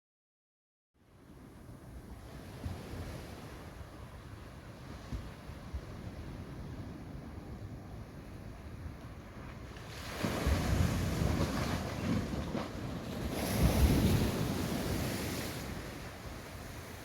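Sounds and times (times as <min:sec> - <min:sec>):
ocean waves washing on beach: 0:01.0 - 0:17.0
wind rumbling on microphone: 0:01.0 - 0:17.0.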